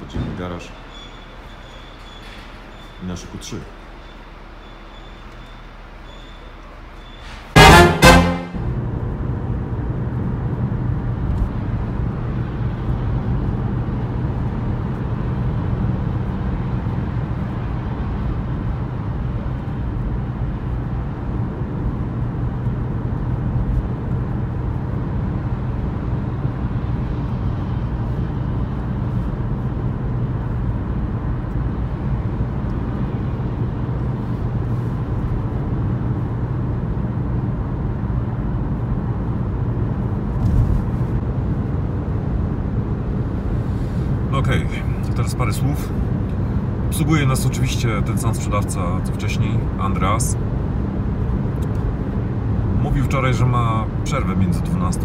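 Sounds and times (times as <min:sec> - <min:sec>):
tyre and road noise: 0:00.0 - 0:55.0
car engine hum: 0:07.5 - 0:55.0.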